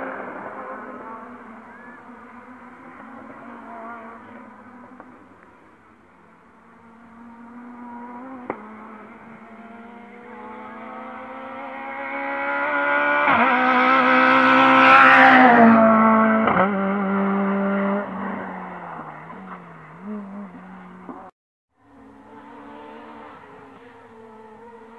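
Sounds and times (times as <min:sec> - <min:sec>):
rally car engine passing: 0:00.0 - 0:24.9.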